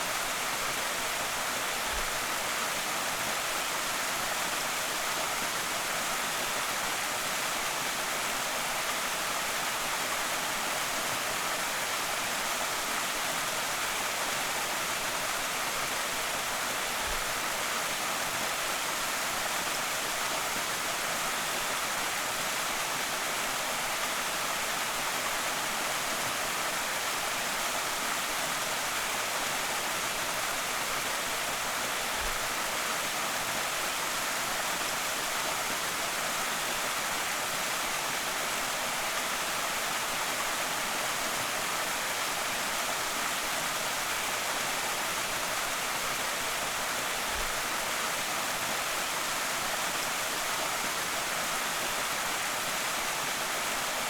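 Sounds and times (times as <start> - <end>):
waterfall hissing and splashing: 0.0 - 54.0.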